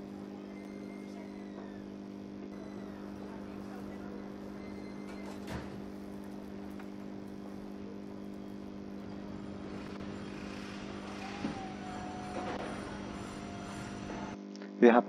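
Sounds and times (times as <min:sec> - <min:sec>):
low hum of held tones: 0:00.0 - 0:14.7.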